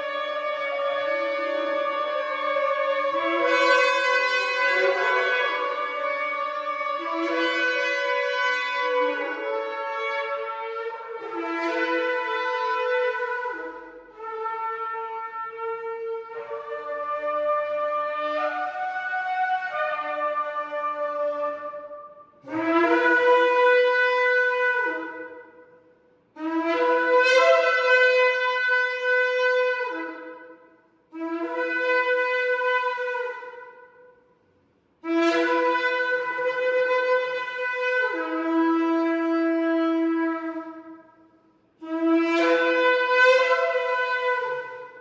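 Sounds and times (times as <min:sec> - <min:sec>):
shofar blasts: 0:00.0 - 0:34.3, 0:35.0 - 0:45.0.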